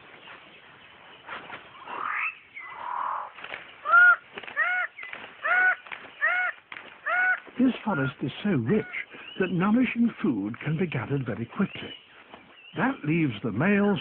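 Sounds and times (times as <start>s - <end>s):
bird calling with nasal notes: 0.0s - 14.0s.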